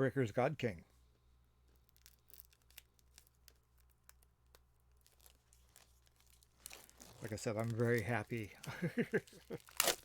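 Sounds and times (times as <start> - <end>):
comic book pages rustling: 1.7 - 10.0.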